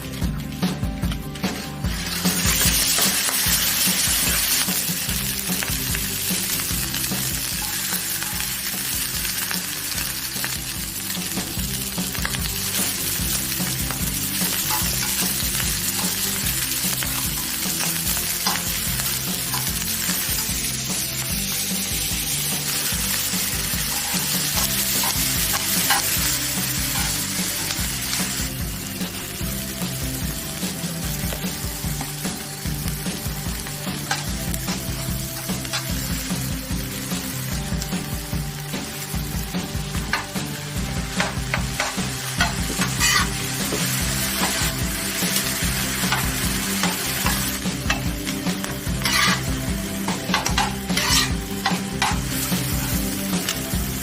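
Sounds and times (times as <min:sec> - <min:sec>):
pork sizzling on a griddle: 0:00.0 - 0:54.0.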